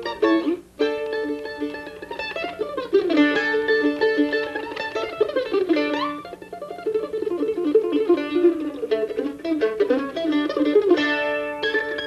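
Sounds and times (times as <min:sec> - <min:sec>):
mandolin picked single-note runs: 0:00.0 - 0:12.0.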